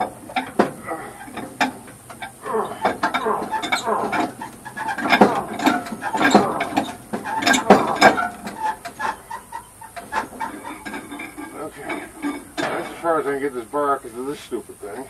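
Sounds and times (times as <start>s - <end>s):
sharp metal knocks: 0.0s - 13.3s
metal tools clanking on engine: 0.0s - 15.0s.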